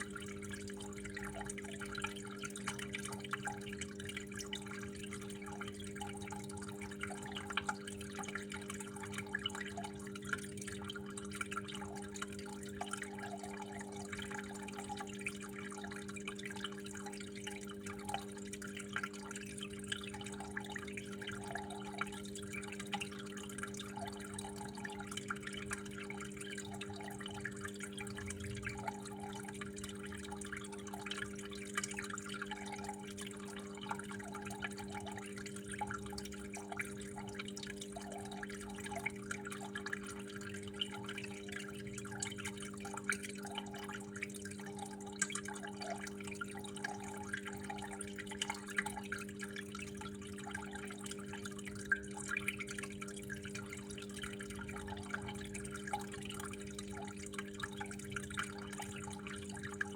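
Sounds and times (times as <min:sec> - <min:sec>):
water trickling and dripping: 0:00.0 - 0:59.9.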